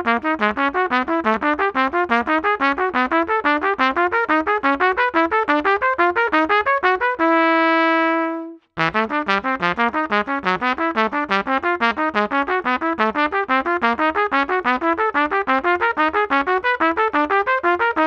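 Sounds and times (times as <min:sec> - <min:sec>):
trumpet playing short notes: 0:01.8 - 0:18.0.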